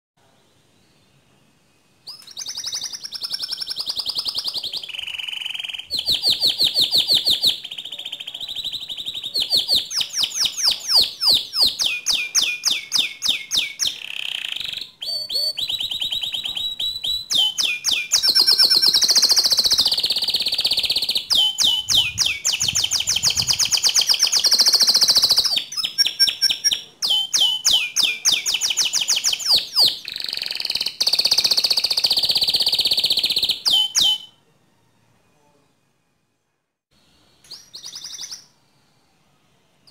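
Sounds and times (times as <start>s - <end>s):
canary singing trills: 2.0s - 34.4s, 37.4s - 38.6s.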